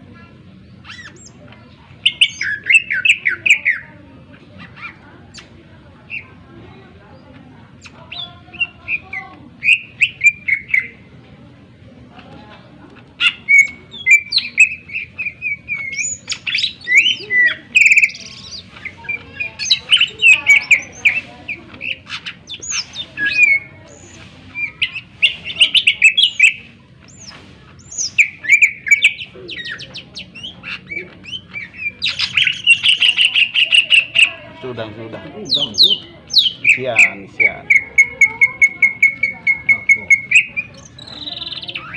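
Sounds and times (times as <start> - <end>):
bird singing whistles and chatter: 0.6 - 6.4, 7.1 - 11.2, 13.2 - 34.6, 35.4 - 41.9.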